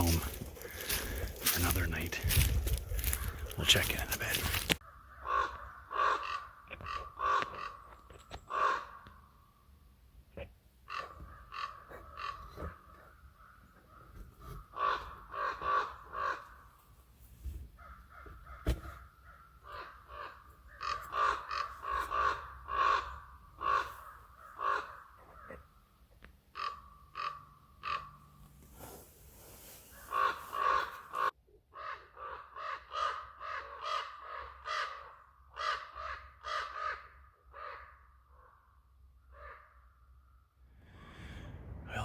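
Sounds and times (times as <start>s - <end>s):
ravens calling harshly: 0.0s - 9.4s, 10.4s - 16.8s, 17.8s - 25.8s, 26.4s - 28.4s, 29.9s - 38.0s.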